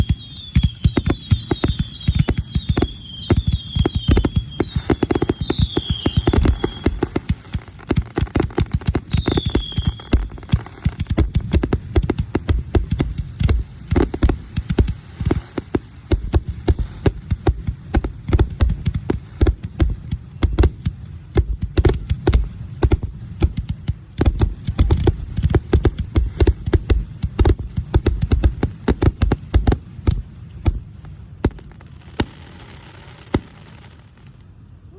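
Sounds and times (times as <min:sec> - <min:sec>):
high firework whistles: 0:00.0 - 0:34.3
fireworks popping and thumping: 0:00.0 - 0:34.5.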